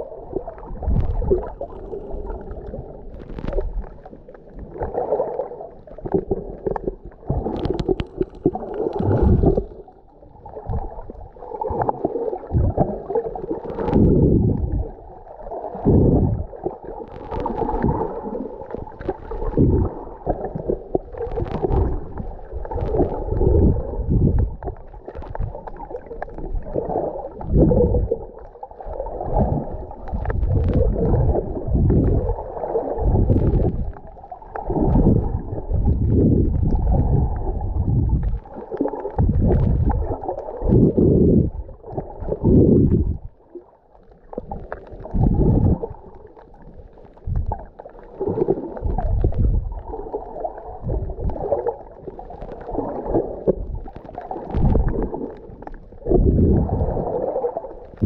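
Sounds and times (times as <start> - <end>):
sea water sloshing and gurgling: 0.0 - 58.0.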